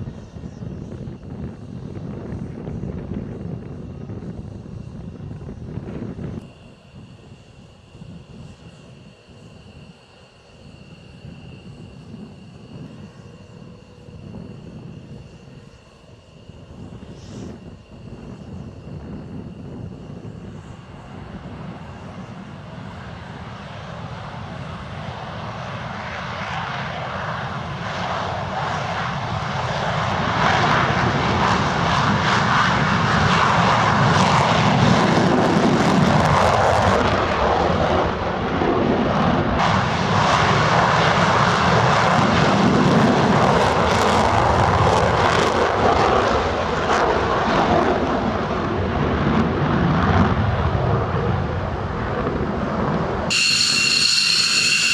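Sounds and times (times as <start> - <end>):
fighter jet engines: 0.0 - 54.9.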